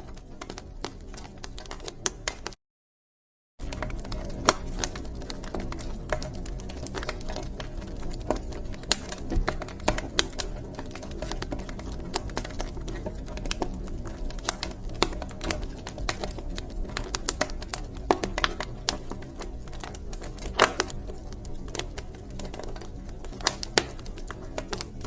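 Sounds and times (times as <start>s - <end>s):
wood fire crackling: 0.0s - 2.6s, 3.6s - 25.0s.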